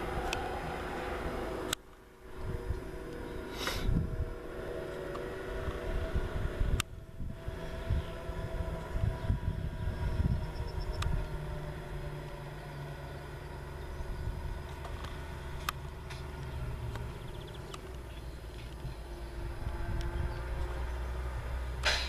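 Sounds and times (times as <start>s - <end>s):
distant engine drone: 0.0s - 22.0s.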